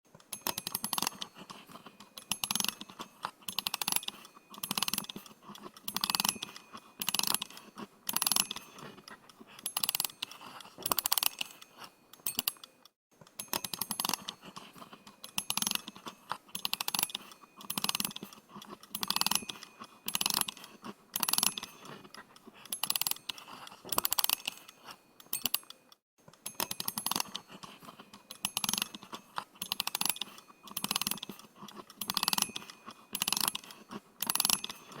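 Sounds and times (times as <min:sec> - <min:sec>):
watch winding ratchet clicks: 0:00.2 - 0:35.0.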